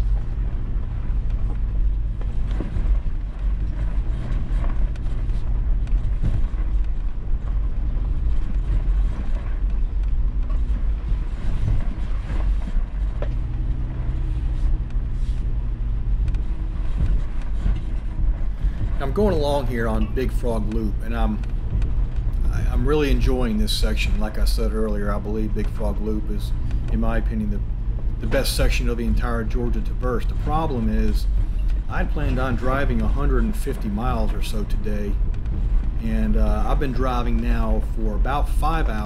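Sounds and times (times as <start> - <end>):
knocks and clatter from rough trail: 0.0 - 39.0
vehicle engine running at low speed: 0.0 - 39.0.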